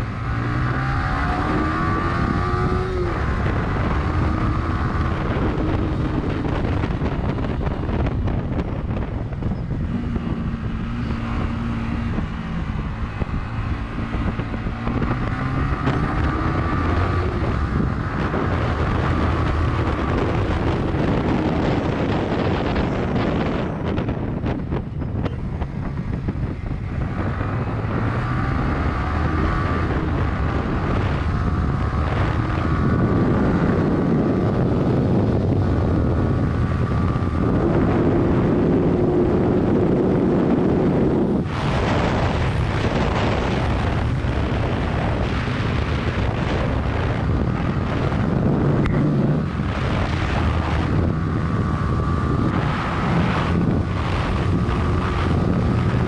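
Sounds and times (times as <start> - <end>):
motorcycle engine running: 0.0 - 56.0
wind on microphone: 0.0 - 56.0.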